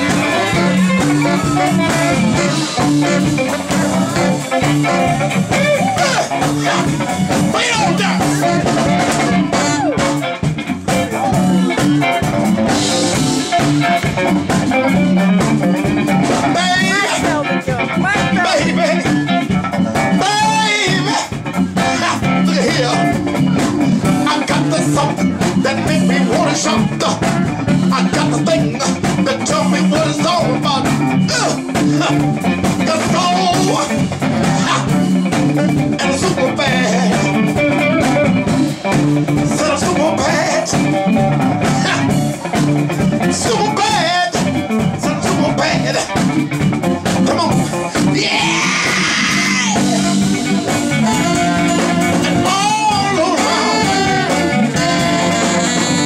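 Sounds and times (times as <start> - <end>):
man singing: 0.0 - 13.6, 16.2 - 38.4, 39.3 - 42.4, 43.2 - 56.0
electric guitar: 0.0 - 56.0
funk band playing: 0.0 - 56.0
saxophone: 0.0 - 56.0.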